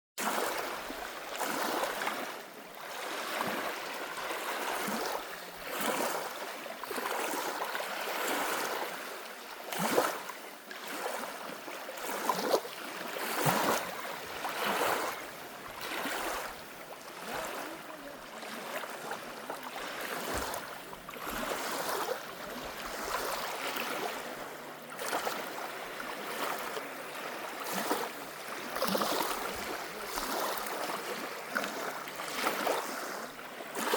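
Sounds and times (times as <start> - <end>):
lake waves lapping and splashing: 0.2 - 33.9.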